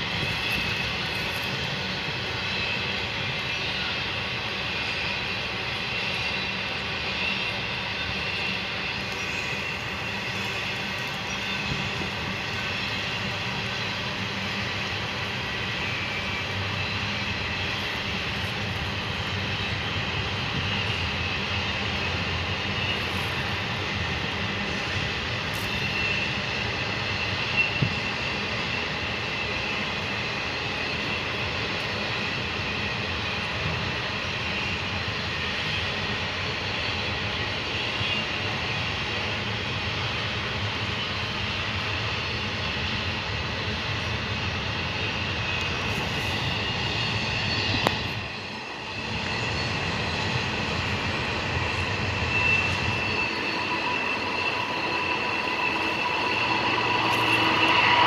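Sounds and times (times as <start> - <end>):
train wheels roaring on rail: 0.0 - 58.0.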